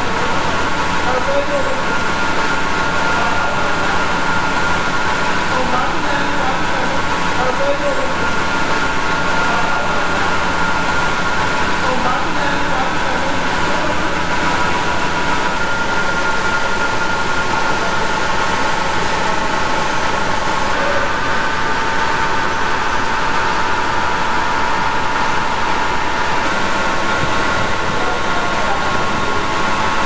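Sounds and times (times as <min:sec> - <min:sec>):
grinding machine whirring: 0:00.0 - 0:30.0.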